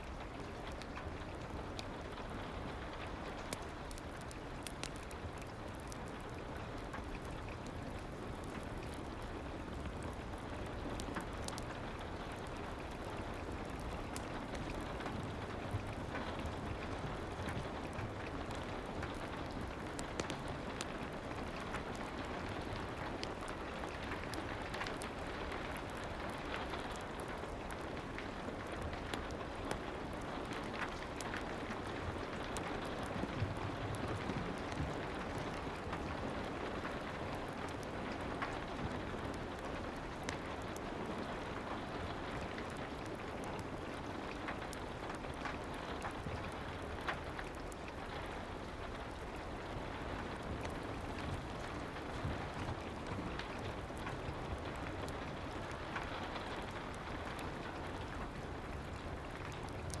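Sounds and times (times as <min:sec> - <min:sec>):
fireplace popping and crackling: 0:00.0 - 1:00.0
soft rain: 0:00.0 - 1:00.0.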